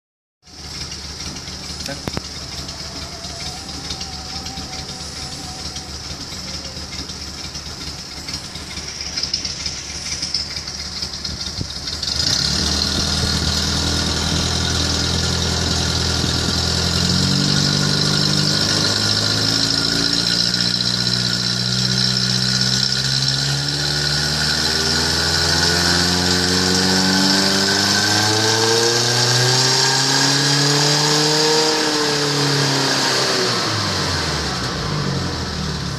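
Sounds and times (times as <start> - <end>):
engine idling and revving: 0.4 - 35.9.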